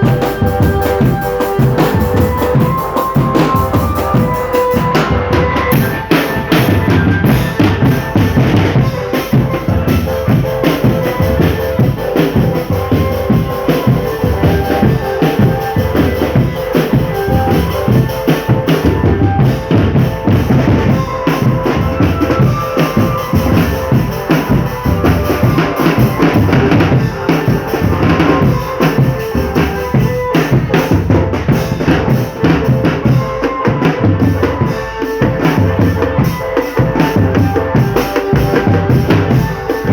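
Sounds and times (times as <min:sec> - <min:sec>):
held-note melody: 0:00.0 - 0:39.9
snare and bass drums: 0:00.0 - 0:39.9.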